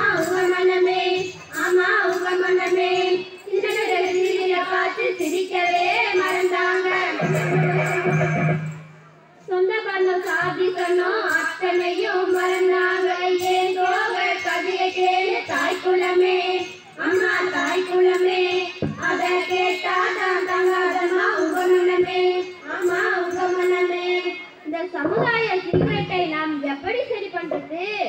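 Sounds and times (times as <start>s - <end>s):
girls singing together: 0.0s - 8.6s, 9.4s - 26.3s
regular percussive beat: 0.0s - 9.4s, 10.2s - 26.3s.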